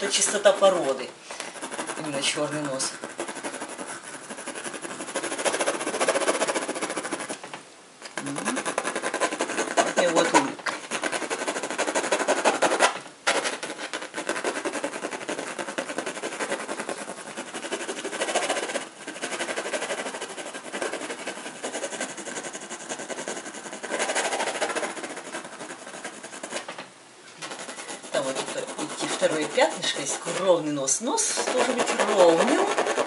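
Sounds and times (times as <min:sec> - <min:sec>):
pencil scratching on paper: 0:00.0 - 0:07.5, 0:08.2 - 0:26.8, 0:27.4 - 0:33.0.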